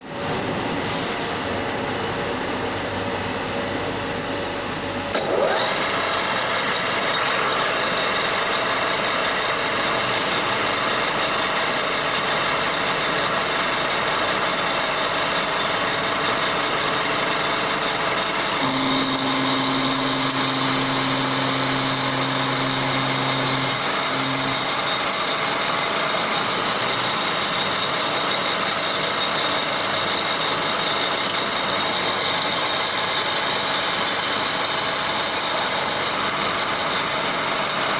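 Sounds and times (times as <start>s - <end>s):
metal lathe machining whine: 0.1s - 37.9s.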